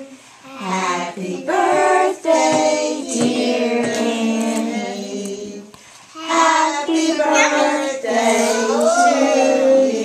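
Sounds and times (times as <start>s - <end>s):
children singing: 0.0s - 10.0s.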